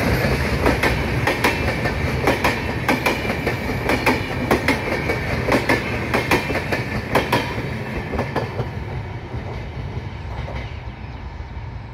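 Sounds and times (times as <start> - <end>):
train wheels clattering over rail joints: 0.0 - 10.8
train rumble: 0.0 - 11.9.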